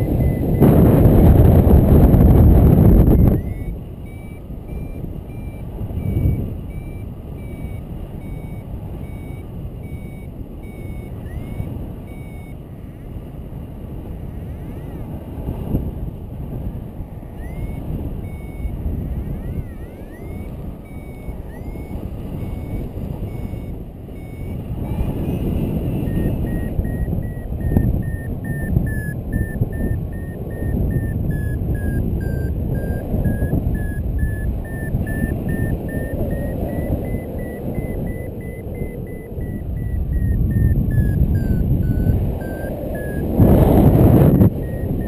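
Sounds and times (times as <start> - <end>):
variometer short high beeps: 0.0 - 13.0, 17.2 - 45.0
wind rushing over microphone: 0.0 - 45.0.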